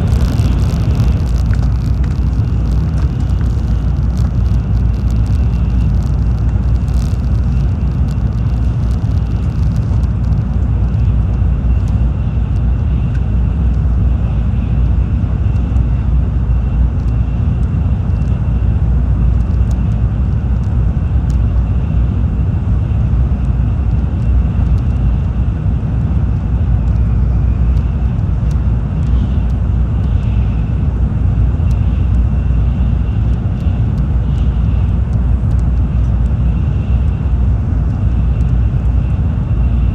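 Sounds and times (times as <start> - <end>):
faint high whine: 0.0 - 39.9
train running rumble: 0.0 - 39.9.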